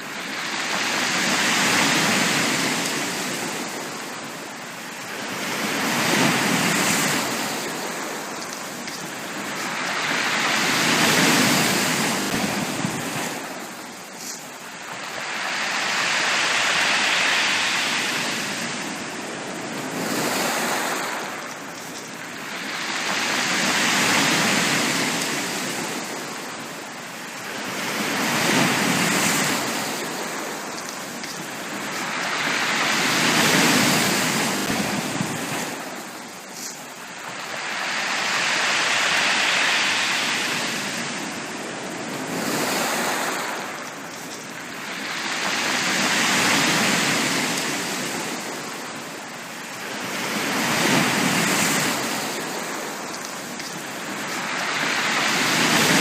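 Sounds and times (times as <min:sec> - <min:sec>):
sea waves breaking on beach: 0:00.0 - 0:56.0.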